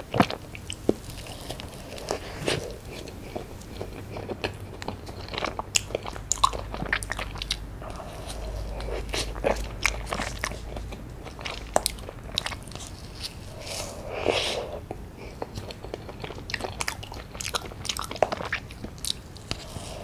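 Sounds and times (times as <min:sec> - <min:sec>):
wet chewing clicks and smacks: 0:00.0 - 0:13.6, 0:14.8 - 0:19.7.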